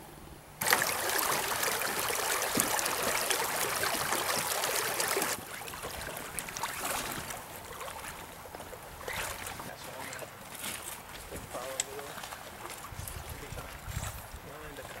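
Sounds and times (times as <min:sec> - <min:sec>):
creek water rushing: 0:00.6 - 0:13.9.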